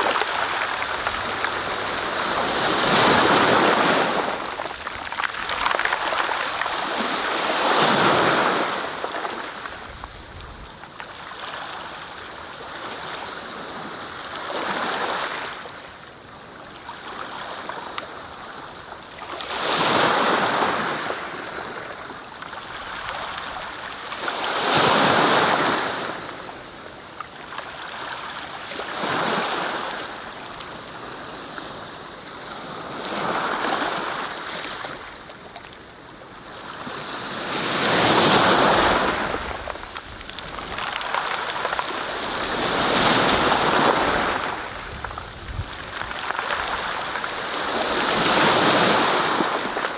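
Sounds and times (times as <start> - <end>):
waves breaking and washing in: 0.0 - 49.9.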